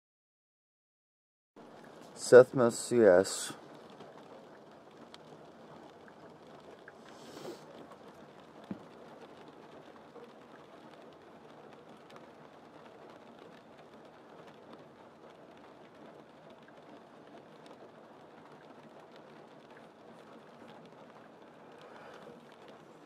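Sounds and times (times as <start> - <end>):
light rain falling: 1.6 - 23.0.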